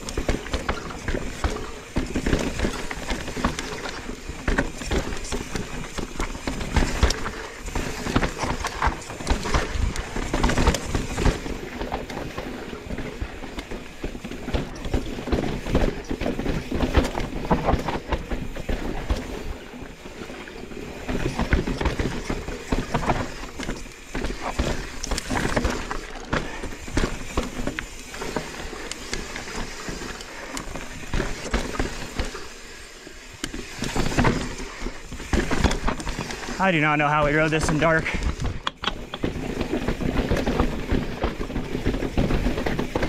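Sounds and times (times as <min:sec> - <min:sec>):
bike knocks and rattles: 0:00.0 - 0:43.0
tyres rolling over rock: 0:00.0 - 0:43.0.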